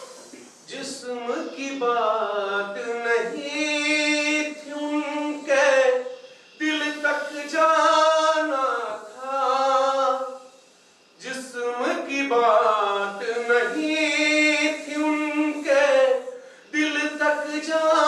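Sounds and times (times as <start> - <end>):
man singing unaccompanied: 0.7 - 10.6, 11.2 - 18.0.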